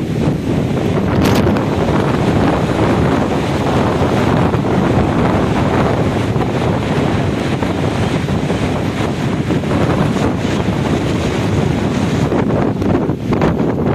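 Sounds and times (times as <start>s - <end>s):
deep rumble: 0.0s - 13.9s
storm wind buffeting microphone: 0.0s - 13.9s.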